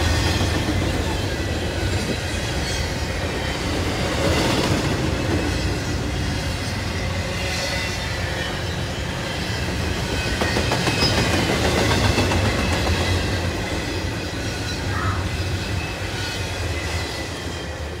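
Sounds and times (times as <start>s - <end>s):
freight train wheels clacking: 0.0s - 18.0s.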